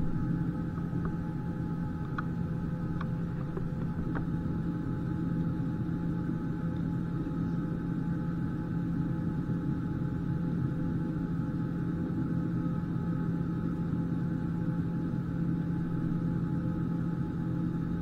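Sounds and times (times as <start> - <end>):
airplane cabin drone: 0.0 - 18.0.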